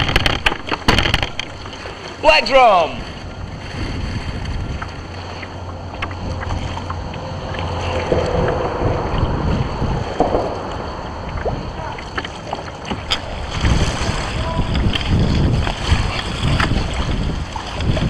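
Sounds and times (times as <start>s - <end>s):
water slapping kayak hull: 0.0s - 18.0s
wind buffeting microphone: 0.0s - 18.0s.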